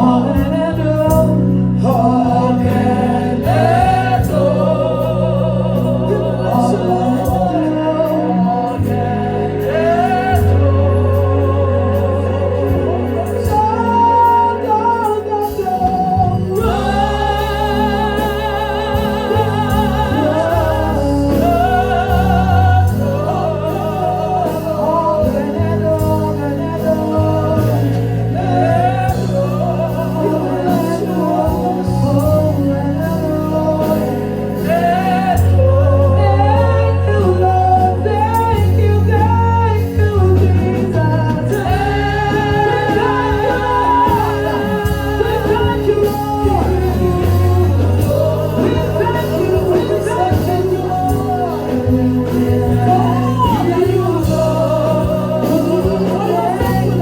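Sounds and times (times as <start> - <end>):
steady bass line: 0.0 - 57.0.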